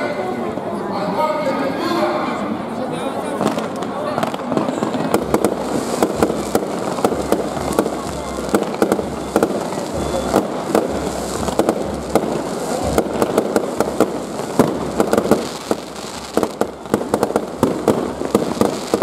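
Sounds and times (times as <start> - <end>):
firecrackers popping and banging: 3.4 - 19.0.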